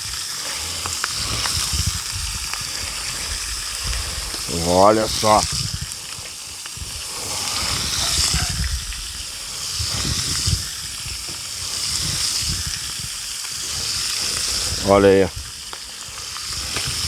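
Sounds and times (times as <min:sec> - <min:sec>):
bacon sizzling in a pan: 0:00.0 - 0:17.0
low irregular rumbling: 0:00.0 - 0:17.0.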